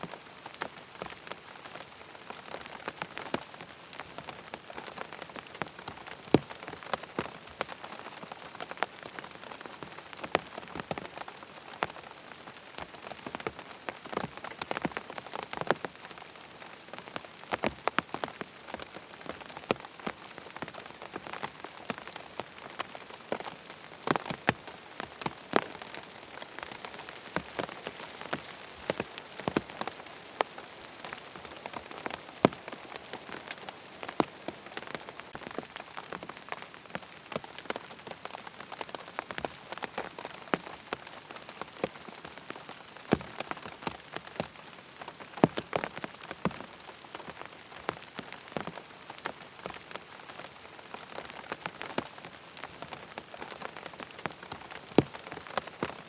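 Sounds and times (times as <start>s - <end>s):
steady rain falling: 0.0s - 56.0s
ticks and pops of raindrops: 0.0s - 56.0s.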